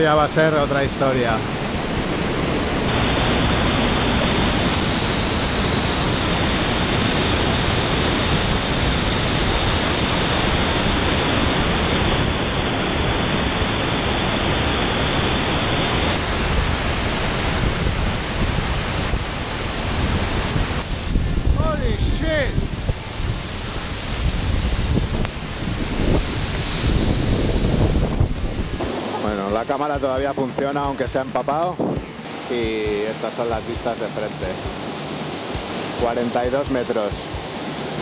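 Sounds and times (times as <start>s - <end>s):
waterfall rushing: 0.0s - 24.2s, 28.7s - 38.0s.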